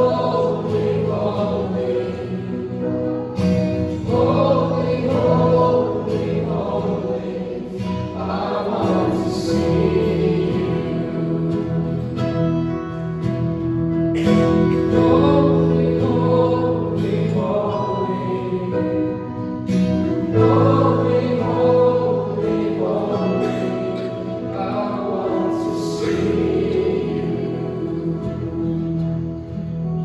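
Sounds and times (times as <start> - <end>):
group singing a praise song: 0.0 - 12.7, 14.2 - 29.2
strummed acoustic guitar: 0.0 - 30.0.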